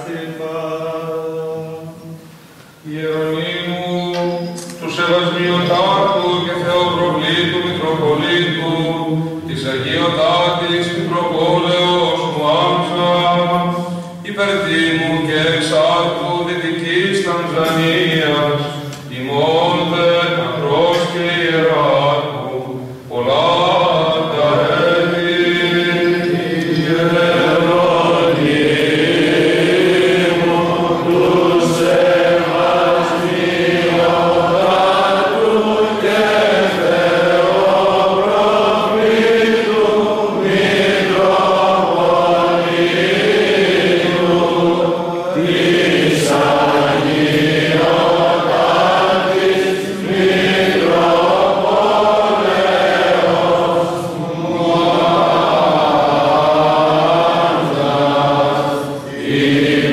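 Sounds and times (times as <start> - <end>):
voices chanting over held drone: 0.0 - 59.9.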